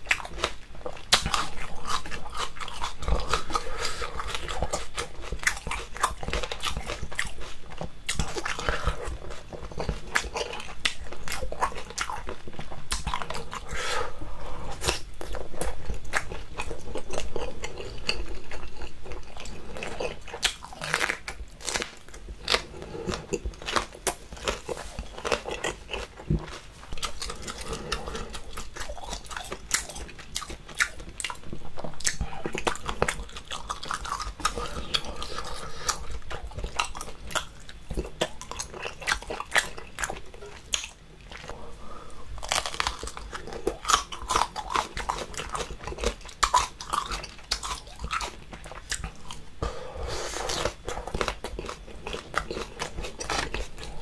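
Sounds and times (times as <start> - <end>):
chewing crunchy pepper: 0.0 - 54.0.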